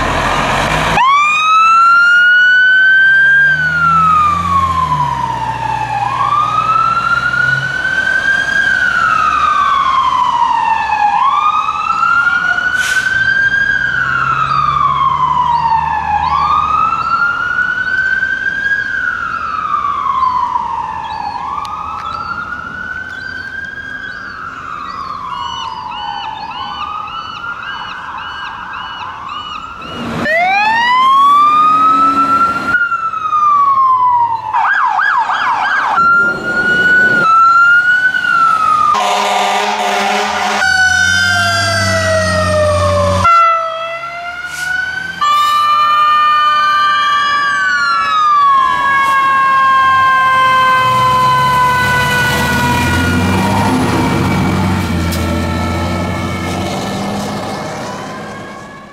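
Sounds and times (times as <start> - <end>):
truck engine rumbling: 0.0 - 26.4, 28.8 - 58.9
fire engine siren wailing: 0.0 - 58.9.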